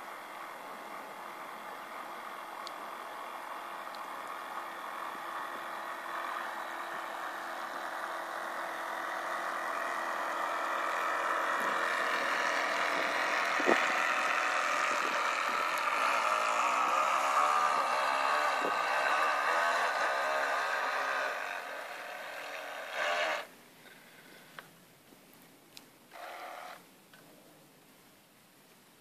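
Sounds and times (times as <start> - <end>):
small electric motor humming: 0.0 - 23.5, 26.1 - 26.8.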